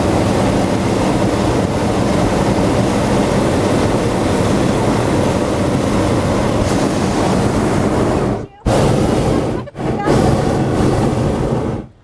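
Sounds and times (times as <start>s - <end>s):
propane burner roaring: 0.0s - 12.0s.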